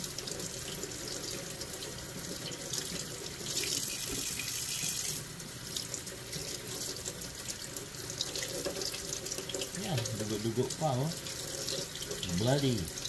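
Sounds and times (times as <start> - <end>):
faucet water splashing in sink: 0.0 - 13.0.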